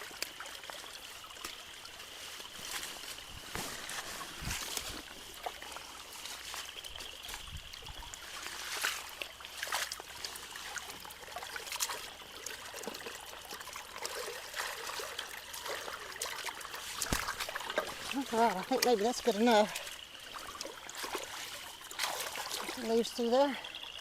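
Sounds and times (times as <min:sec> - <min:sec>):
small splashes and clicks: 0:00.0 - 0:24.0
water trickling through a culvert: 0:00.0 - 0:24.0.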